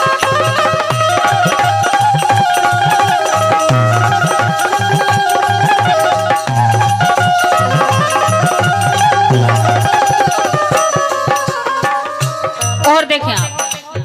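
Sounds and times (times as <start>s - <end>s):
hand drum strokes: 0.0s - 14.0s
harmonium melody: 0.0s - 14.0s
small metal cymbals shaken: 0.2s - 14.0s.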